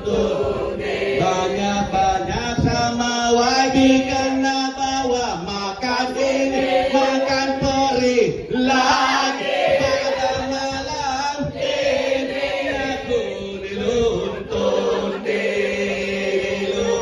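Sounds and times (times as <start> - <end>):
man chanting into a microphone: 0.0 - 11.6, 12.7 - 15.0.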